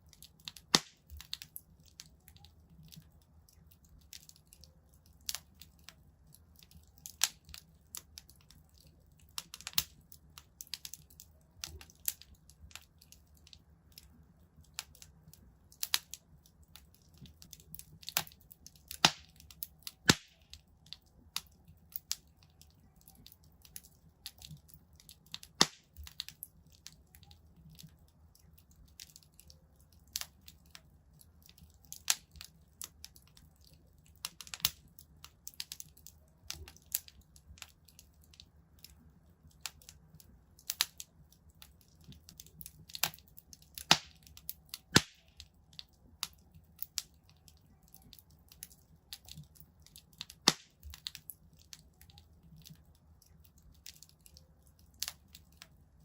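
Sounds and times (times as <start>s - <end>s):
sharp pops and snaps: 0.0s - 56.0s
wood fire crackling: 0.0s - 56.0s.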